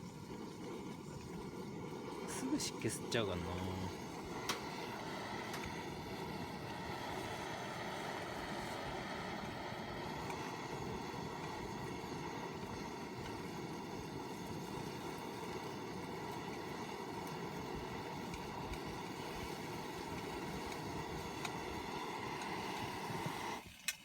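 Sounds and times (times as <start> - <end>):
fire crackles: 0.0 - 24.0
wood fire rushing: 0.0 - 24.0.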